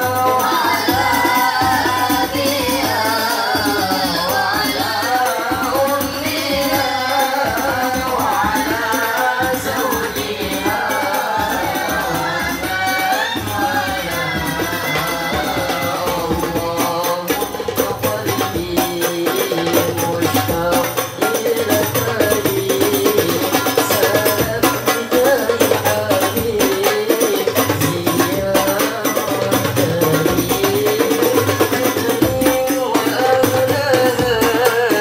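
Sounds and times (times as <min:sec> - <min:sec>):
boys singing through microphones: 0:00.0 - 0:35.0
frame drums beating: 0:00.0 - 0:35.0.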